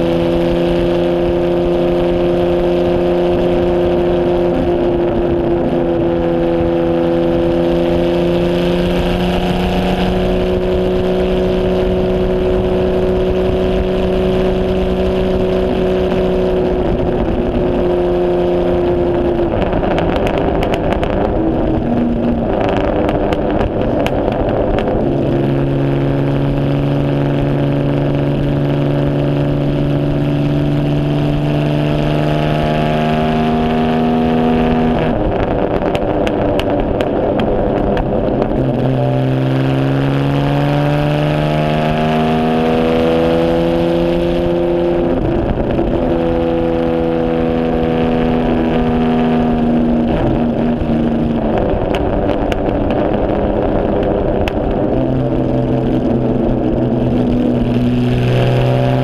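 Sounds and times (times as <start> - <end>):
engine crackling: 0.0 - 59.0
race car engine running: 0.0 - 59.0.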